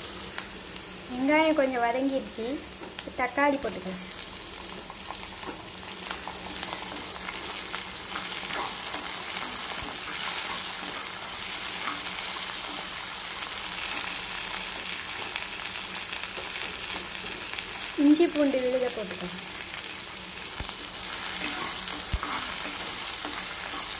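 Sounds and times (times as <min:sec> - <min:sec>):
vegetables sizzling in hot oil: 0:00.0 - 0:23.9.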